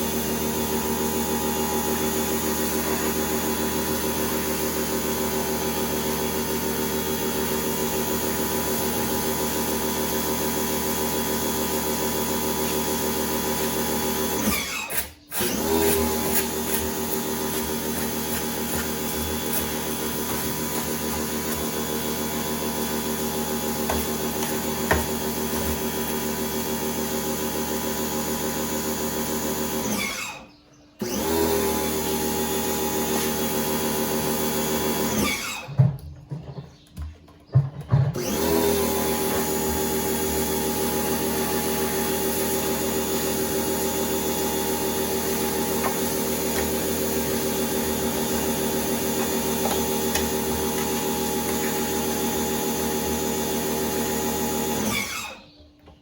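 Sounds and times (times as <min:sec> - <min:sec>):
power tool motor whining: 0:00.0 - 0:35.8, 0:38.2 - 0:55.6.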